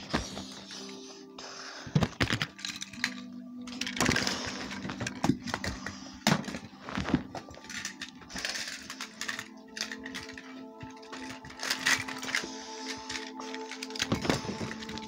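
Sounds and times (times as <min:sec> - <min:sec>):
plastic toys clattering: 0:01.8 - 0:15.0.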